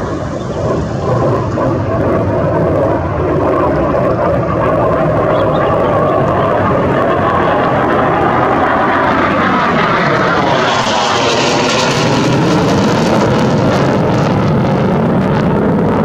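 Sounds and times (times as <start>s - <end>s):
fighter jet engine rushing: 0.0s - 16.0s.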